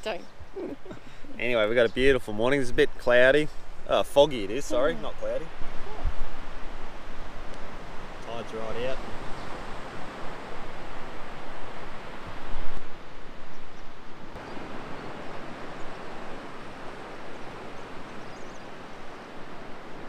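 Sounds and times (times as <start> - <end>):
distant surf: 0.0 - 20.0
wind rumbling on microphone: 3.6 - 20.0.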